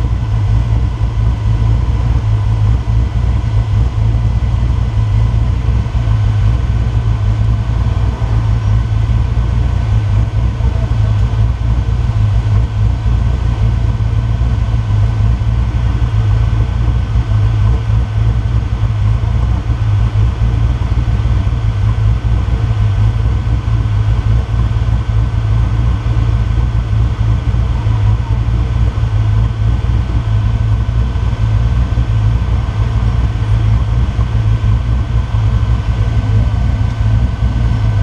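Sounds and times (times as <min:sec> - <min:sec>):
buggy engine idling: 0:00.0 - 0:38.0.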